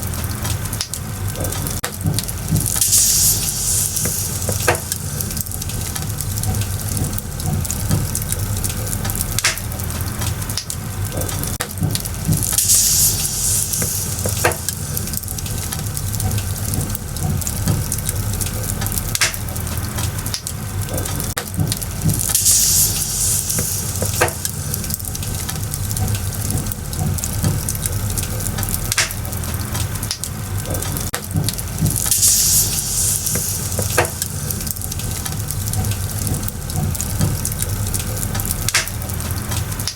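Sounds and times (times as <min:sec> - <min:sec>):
bonfire crackling and popping: 0:00.0 - 0:39.9
fire hissing: 0:00.0 - 0:39.9.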